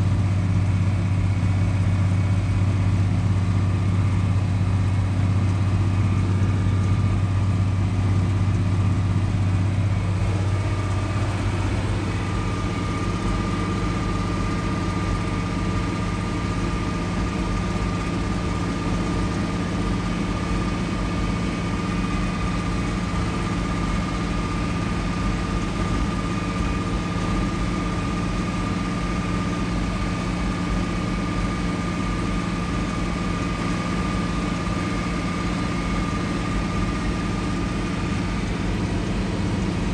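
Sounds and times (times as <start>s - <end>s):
tractor engine drone: 0.0s - 39.9s.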